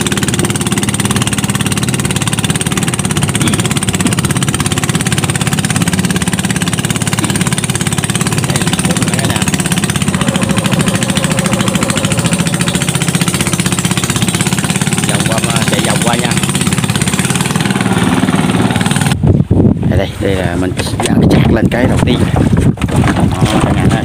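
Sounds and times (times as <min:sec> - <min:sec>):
small boat engine puttering: 0:00.0 - 0:19.4, 0:20.1 - 0:24.0.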